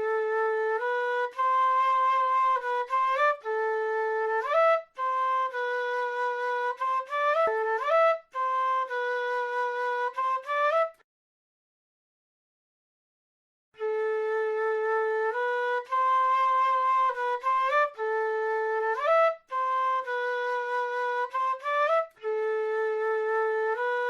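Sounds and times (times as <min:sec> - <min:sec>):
flute solo melody: 0:00.0 - 0:11.1, 0:13.8 - 0:24.0.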